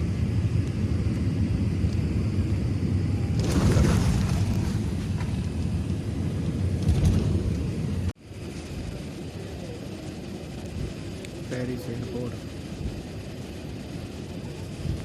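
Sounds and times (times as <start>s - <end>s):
airplane landing roar: 0.0s - 15.0s
steady cabin rumble: 0.0s - 15.0s.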